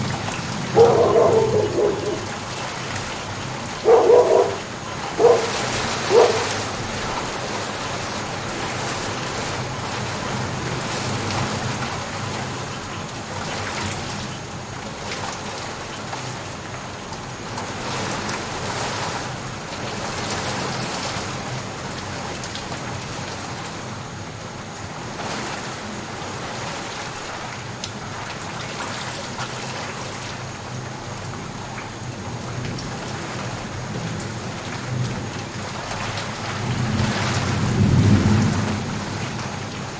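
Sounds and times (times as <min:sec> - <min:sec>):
rain hissing on surfaces: 0:00.0 - 0:39.9.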